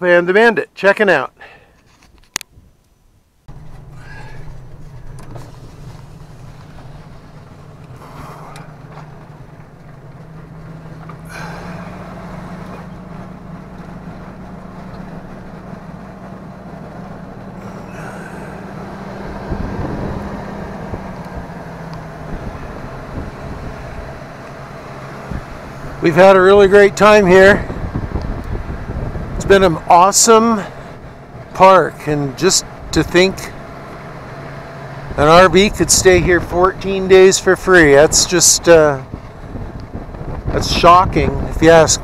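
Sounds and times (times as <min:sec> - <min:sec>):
road rumble: 0:00.0 - 0:42.0
vehicle engine running: 0:03.5 - 0:42.0.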